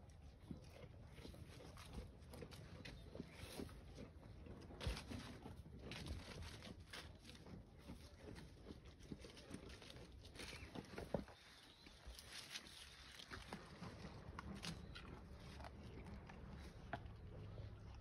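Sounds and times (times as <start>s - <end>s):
goat rustling and tearing leaves: 0.0s - 18.0s.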